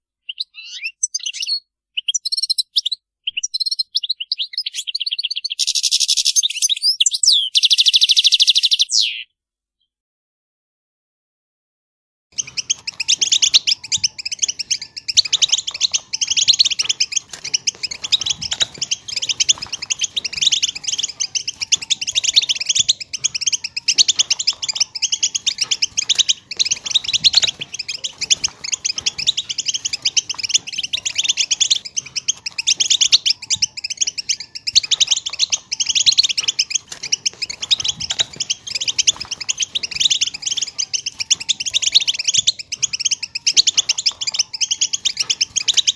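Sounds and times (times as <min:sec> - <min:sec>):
finch twittering song: 0:00.2 - 0:09.3, 0:12.4 - 0:45.9.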